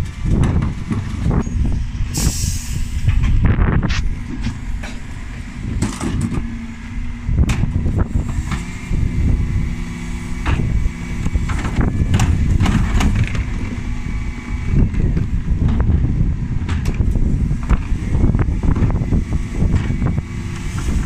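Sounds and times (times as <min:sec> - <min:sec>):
diesel engine running: 0:00.0 - 0:21.0
steady mechanical whine: 0:00.0 - 0:21.0.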